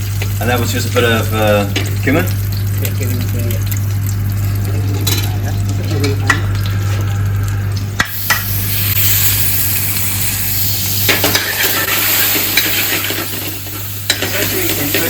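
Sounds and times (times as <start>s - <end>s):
spices sizzling in a pan: 0.0s - 15.0s.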